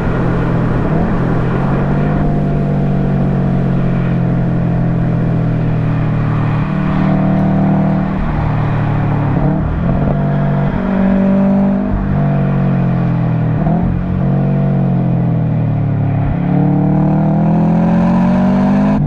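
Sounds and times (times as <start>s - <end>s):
turbocharged car engine revving: 0.0s - 19.0s.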